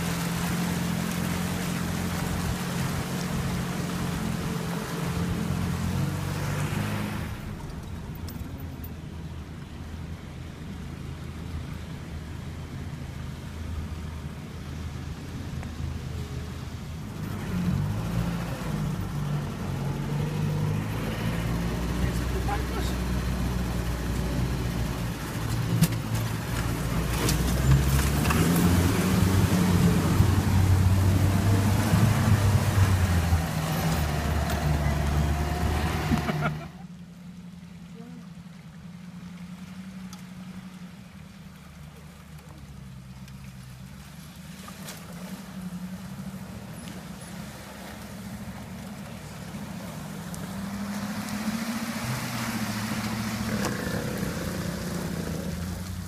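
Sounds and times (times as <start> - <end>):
car engine running under load: 0.0 - 56.0
water splashing around wheels: 0.0 - 56.0.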